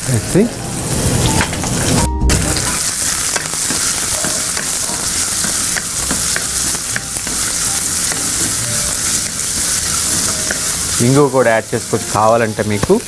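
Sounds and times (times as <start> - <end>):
onion sizzling in a pan: 0.0 - 13.0.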